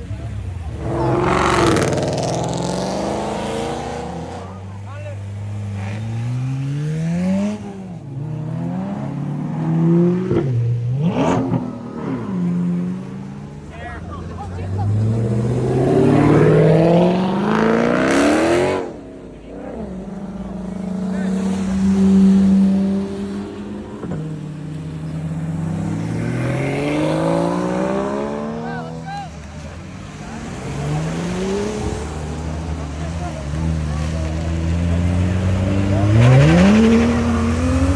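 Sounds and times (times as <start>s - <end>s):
car engine accelerating hard: 0.0s - 37.9s.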